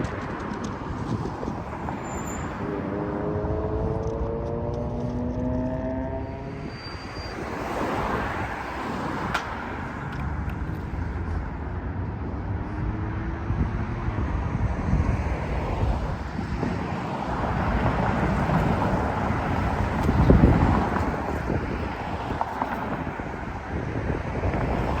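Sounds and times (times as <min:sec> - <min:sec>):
rumble of passing cars: 0:00.0 - 0:25.0
wind on microphone: 0:00.0 - 0:25.0.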